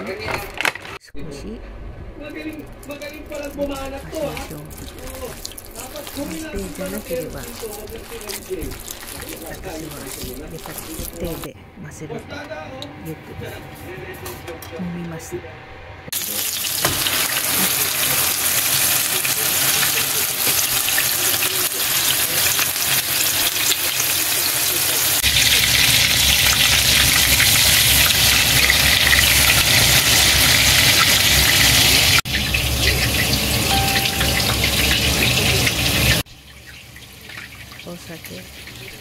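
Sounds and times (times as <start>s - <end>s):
patties sizzling in oil: 2.8s - 11.5s, 16.1s - 39.0s.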